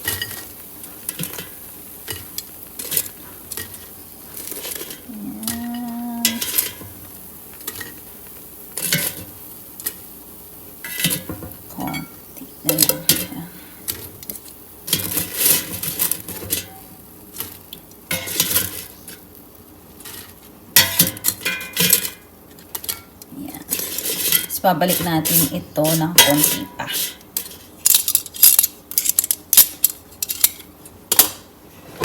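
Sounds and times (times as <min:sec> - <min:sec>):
utensils clinking against pans: 0:00.0 - 0:06.9, 0:08.7 - 0:10.0, 0:10.8 - 0:19.2, 0:20.0 - 0:31.4
food sizzling: 0:00.0 - 0:32.0.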